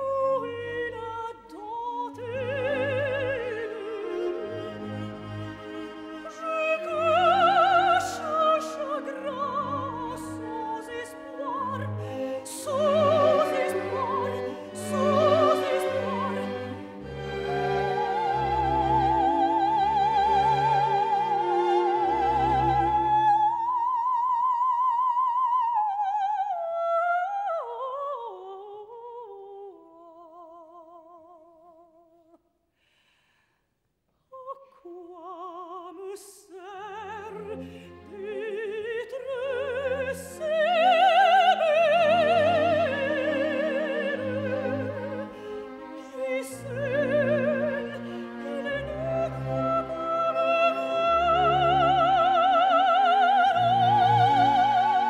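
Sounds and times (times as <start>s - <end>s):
operatic soprano singing: 0.0s - 32.0s, 34.3s - 55.0s.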